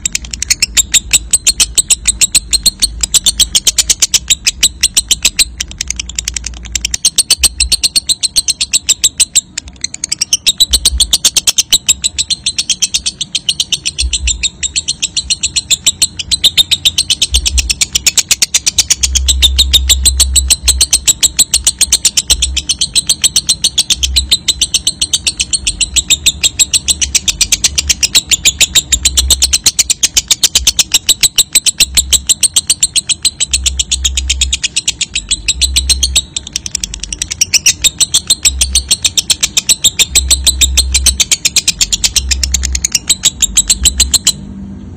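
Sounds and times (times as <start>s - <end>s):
lovebird chattering trill: 0.0s - 44.5s.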